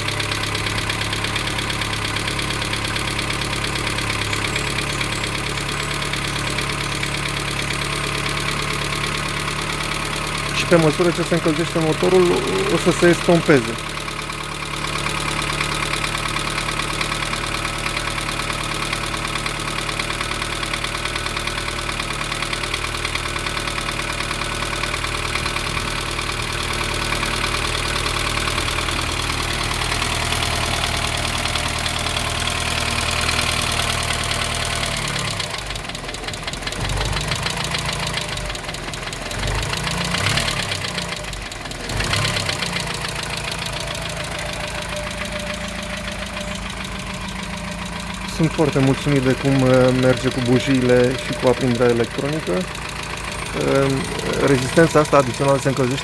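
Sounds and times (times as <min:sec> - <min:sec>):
engine idling: 0:00.0 - 0:56.0
engine knocking: 0:00.0 - 0:56.0
engine revving: 0:00.0 - 0:56.0.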